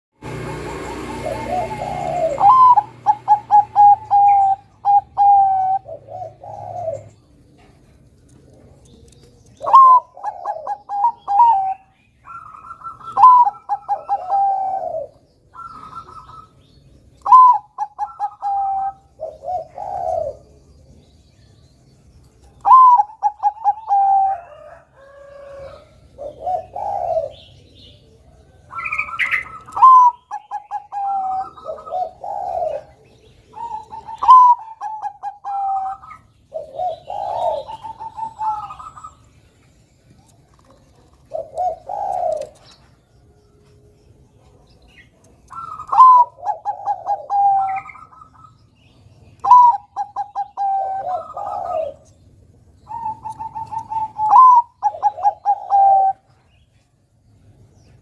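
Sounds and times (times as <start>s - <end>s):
dove cooing: 0.2s - 21.1s, 22.5s - 39.4s, 40.2s - 43.4s, 44.1s - 56.7s.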